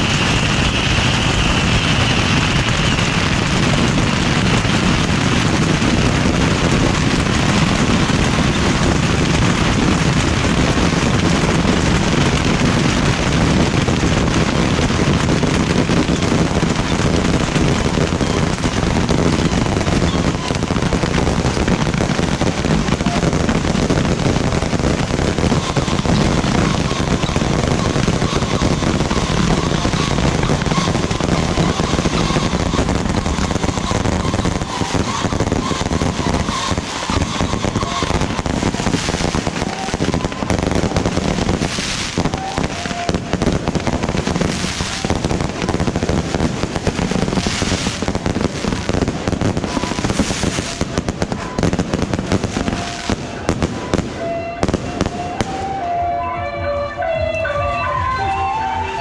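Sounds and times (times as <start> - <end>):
firecrackers crackling and popping: 0.0 - 59.0.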